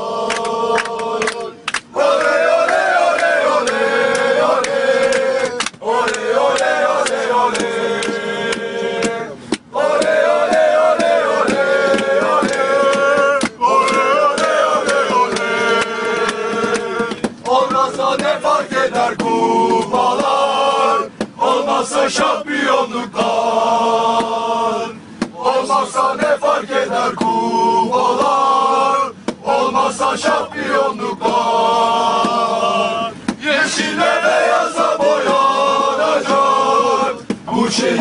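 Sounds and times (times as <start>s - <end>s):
men singing a chant in unison: 0.0s - 38.0s.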